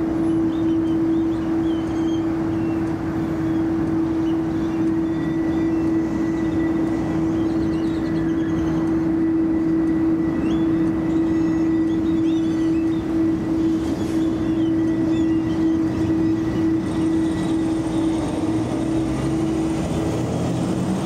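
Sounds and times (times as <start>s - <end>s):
faint high whine: 0.0s - 20.3s
jet engines droning: 0.0s - 21.0s.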